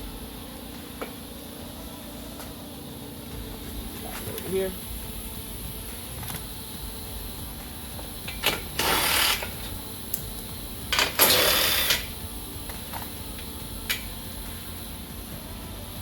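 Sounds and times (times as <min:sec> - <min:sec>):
cordless power tool spinning bolts: 0:00.0 - 0:16.0.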